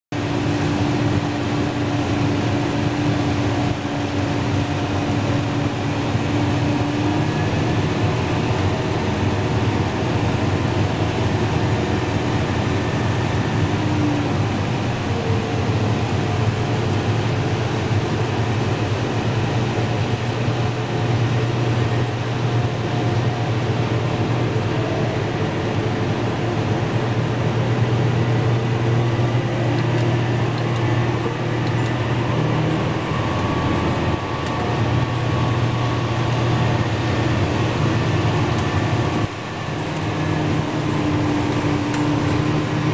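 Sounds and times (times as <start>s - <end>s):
combine harvester droning: 0.0s - 42.9s
tractor running: 0.0s - 42.9s.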